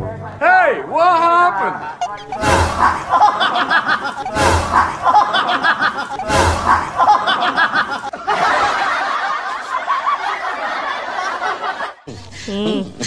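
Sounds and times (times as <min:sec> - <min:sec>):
people laughing: 0:01.7 - 0:13.0.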